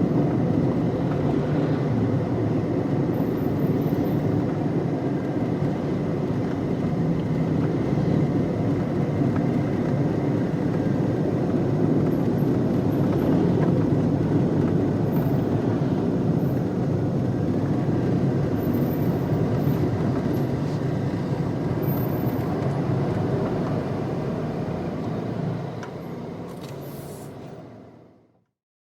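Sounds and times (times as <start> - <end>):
car road and engine rumble: 0.0 - 28.6.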